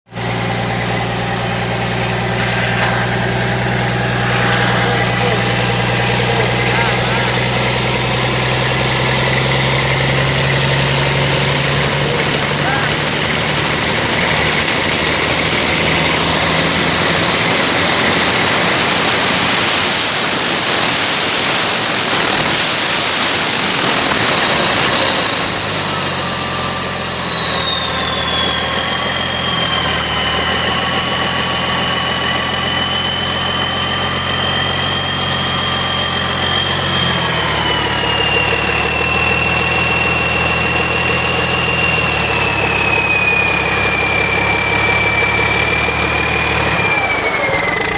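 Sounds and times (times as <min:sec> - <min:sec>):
diesel engine revving and idling: 0:00.1 - 0:47.9
high engine whine: 0:00.1 - 0:47.9.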